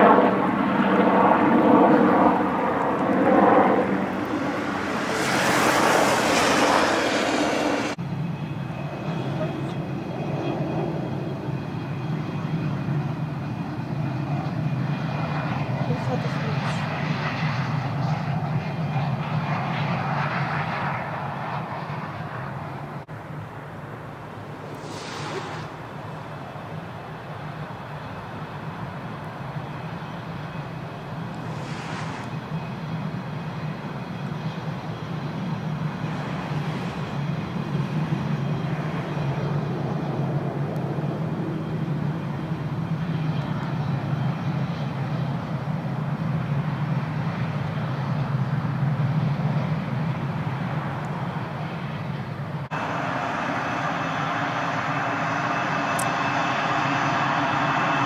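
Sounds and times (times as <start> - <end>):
jet engines rumbling and whining: 0.0 - 58.0.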